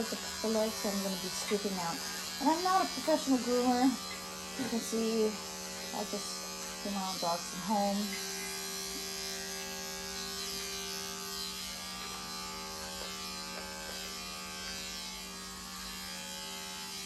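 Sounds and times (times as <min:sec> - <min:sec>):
electric clippers buzzing: 0:00.0 - 0:17.0.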